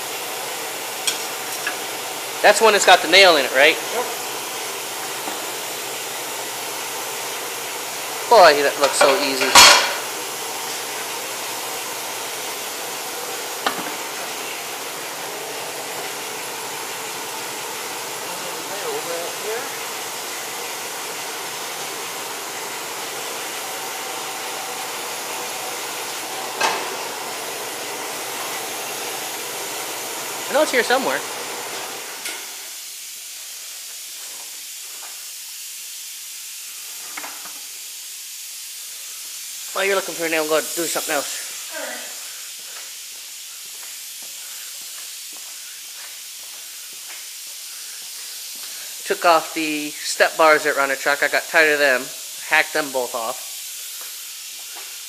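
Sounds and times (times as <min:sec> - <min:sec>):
steady hissing noise: 0:00.0 - 0:55.0.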